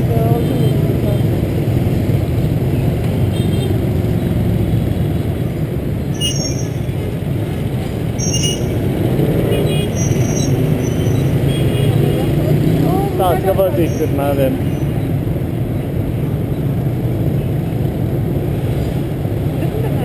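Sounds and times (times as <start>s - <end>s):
motorbike engines rumbling: 0.0s - 20.0s
road noise: 0.0s - 20.0s.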